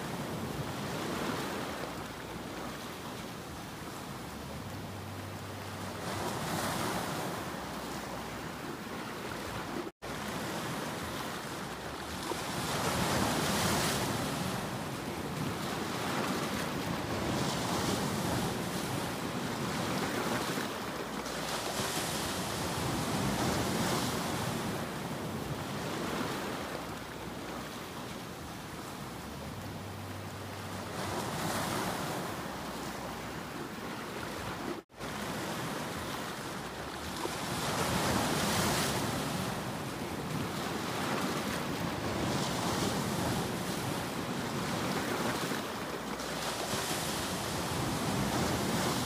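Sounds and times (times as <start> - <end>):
sea surf breaking over rocks: 5.8 - 29.3, 30.7 - 49.0.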